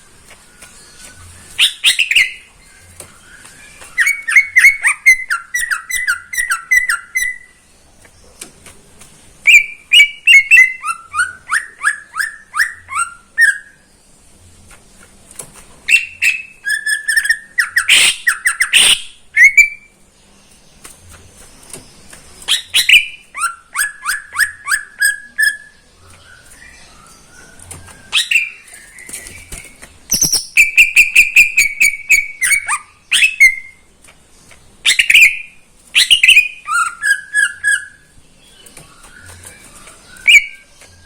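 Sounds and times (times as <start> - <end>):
bird whistled song: 0.0 - 7.6, 9.4 - 14.0, 15.9 - 20.0, 21.6 - 33.9, 34.8 - 41.0.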